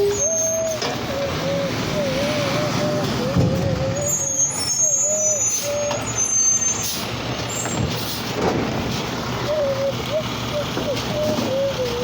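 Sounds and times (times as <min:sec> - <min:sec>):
diesel engine running: 0:00.0 - 0:12.0
truck squealing: 0:00.0 - 0:12.0.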